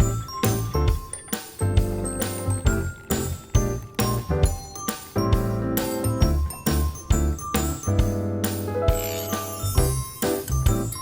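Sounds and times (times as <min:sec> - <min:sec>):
tinkling bell-like music with beat: 0:00.0 - 0:11.0.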